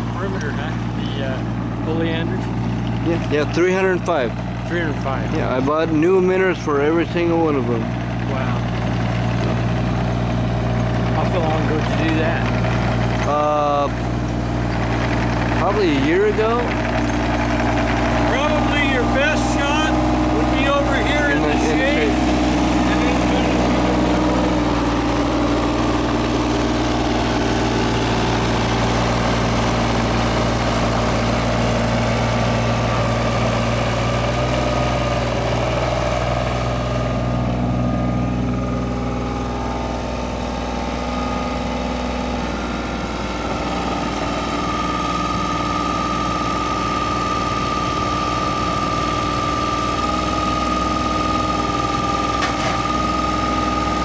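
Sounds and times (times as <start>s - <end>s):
engine running: 0.0s - 54.0s
high whine: 0.0s - 54.0s.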